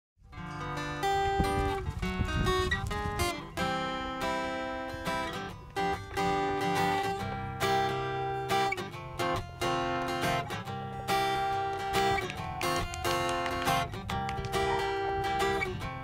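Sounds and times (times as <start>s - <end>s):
acoustic guitar strumming chords: 0.3s - 16.0s.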